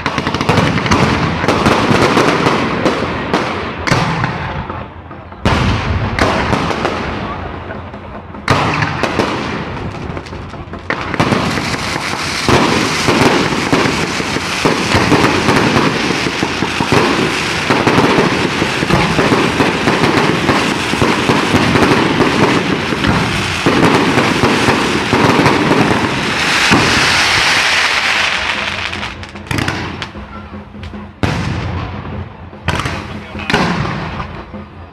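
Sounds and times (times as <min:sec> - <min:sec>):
fireworks crackling and banging: 0:00.0 - 0:34.9.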